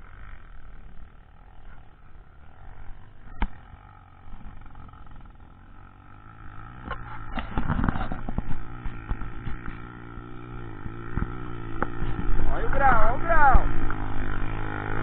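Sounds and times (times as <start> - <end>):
motorcycle engine under load: 0.0 - 15.0.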